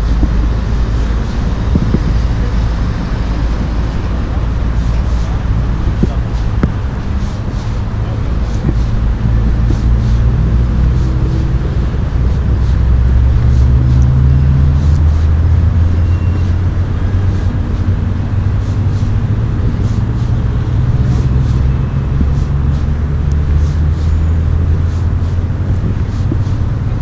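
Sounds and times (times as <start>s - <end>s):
low engine rumble: 0.0s - 27.0s
wind and road noise: 0.0s - 27.0s.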